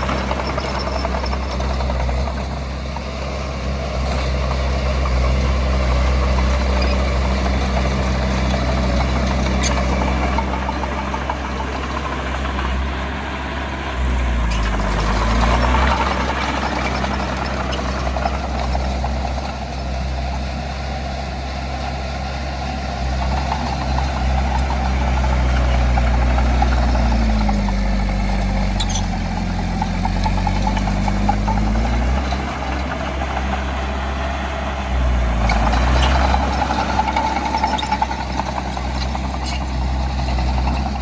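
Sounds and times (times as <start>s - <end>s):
heavy diesel machine rumbling: 0.0s - 41.0s.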